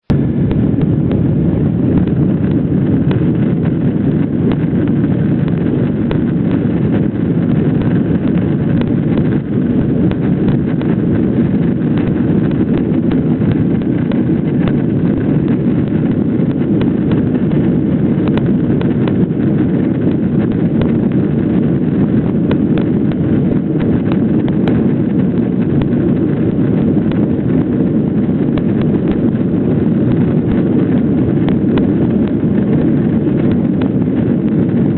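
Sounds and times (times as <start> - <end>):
jet engine cabin rumble: 0.0 - 34.9.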